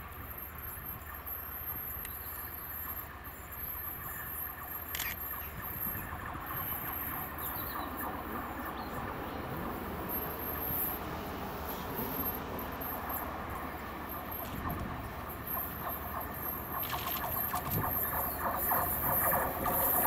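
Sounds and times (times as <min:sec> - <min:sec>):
distant train rumble: 0:00.0 - 0:20.0
insects chirping: 0:00.2 - 0:20.0.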